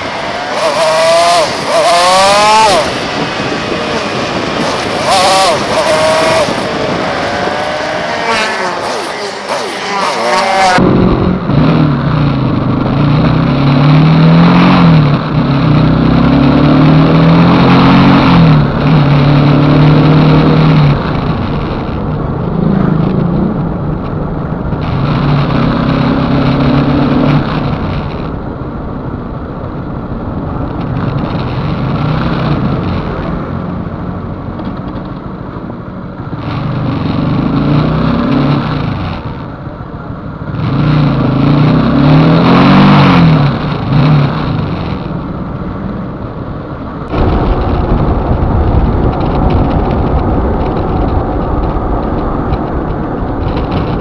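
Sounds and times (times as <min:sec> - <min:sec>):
motorcycle engine revving: 0:00.0 - 0:28.5, 0:30.5 - 0:35.1, 0:36.2 - 0:54.0
wind and road noise: 0:00.0 - 0:54.0.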